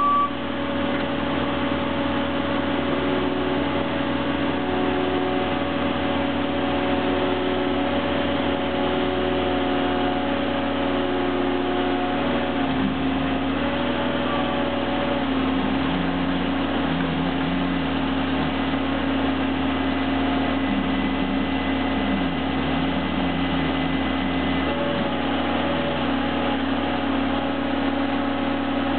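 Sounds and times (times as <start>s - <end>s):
hydraulic auger boring: 0.0s - 28.9s
loader engine running: 0.0s - 28.9s.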